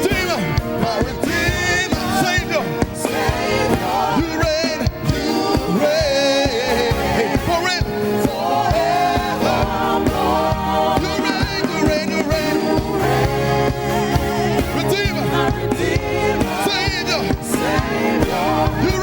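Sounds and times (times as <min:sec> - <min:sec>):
held keyboard chords: 0:00.0 - 0:19.0
singers: 0:00.0 - 0:19.0
steady drum beat: 0:00.0 - 0:19.0.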